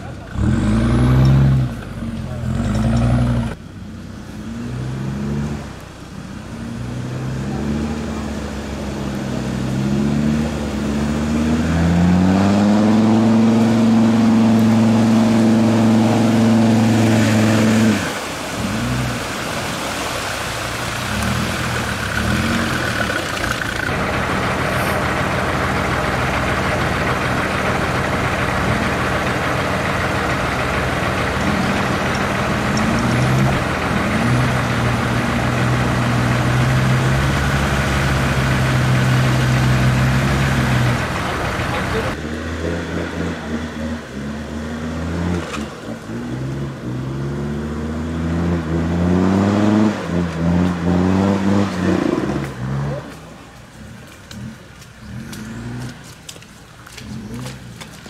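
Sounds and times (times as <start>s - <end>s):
diesel engine revving under load: 0.0s - 53.2s
mud and water churning and splashing: 0.0s - 58.0s.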